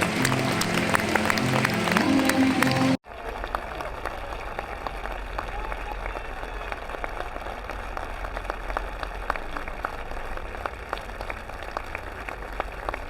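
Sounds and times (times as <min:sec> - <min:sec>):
large crowd applauding: 0:00.0 - 0:13.0.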